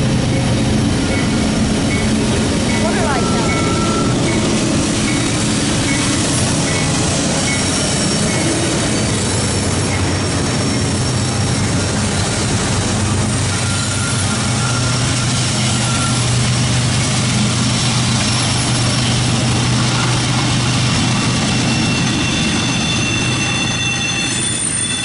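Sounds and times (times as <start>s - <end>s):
diesel locomotive engine drone: 0.0s - 25.0s
train rumbling past: 0.0s - 25.0s
high wheel squeal: 0.3s - 25.0s.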